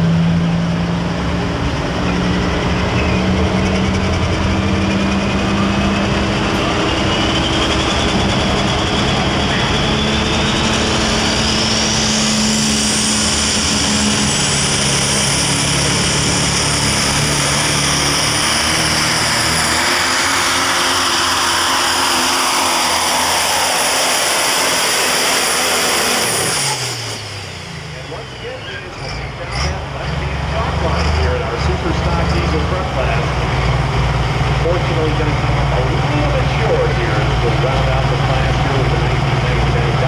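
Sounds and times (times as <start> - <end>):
diesel truck engine at full throttle: 0.0 - 40.0.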